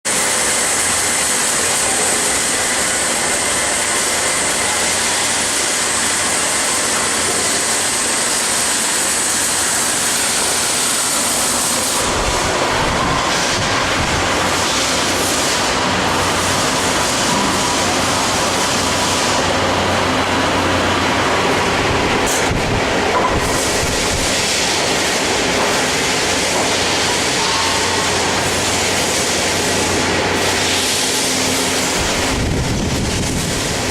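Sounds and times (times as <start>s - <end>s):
machine hiss: 0.1s - 33.9s
welding machine running: 0.1s - 33.9s.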